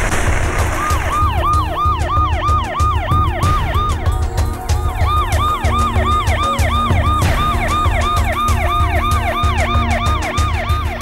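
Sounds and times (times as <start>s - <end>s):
low rhythmic thumping: 0.0s - 11.0s
ambulance siren wailing: 0.8s - 11.0s.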